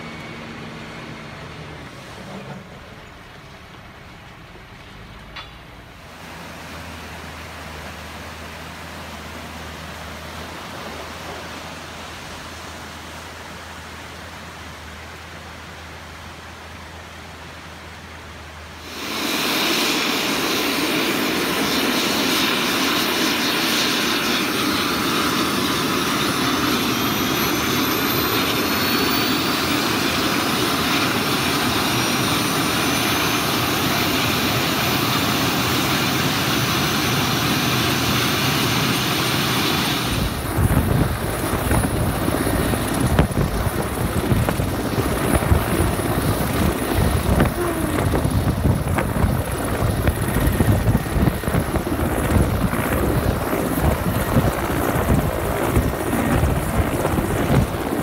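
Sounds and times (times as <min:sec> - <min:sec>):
helicopter turbine engines starting: 0:00.0 - 0:13.8, 0:17.5 - 0:58.0
river rushing: 0:05.9 - 0:23.4, 0:24.1 - 0:58.0.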